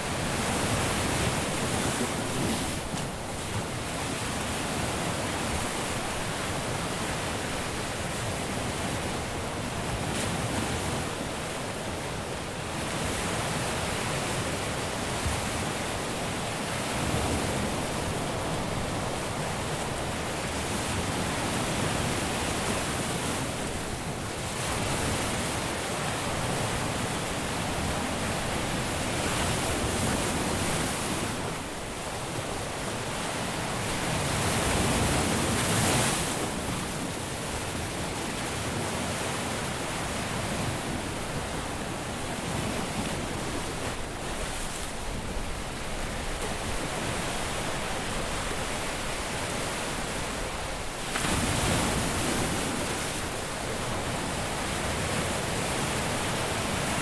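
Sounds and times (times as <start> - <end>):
waves breaking on a beach: 0.0 - 57.0.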